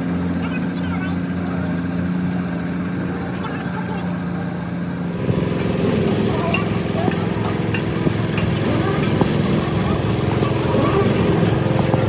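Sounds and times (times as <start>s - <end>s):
motor running: 0.0s - 12.0s.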